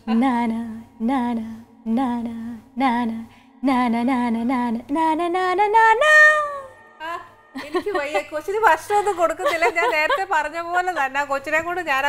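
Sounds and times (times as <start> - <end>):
woman singing with vibrato: 0.0 - 10.3.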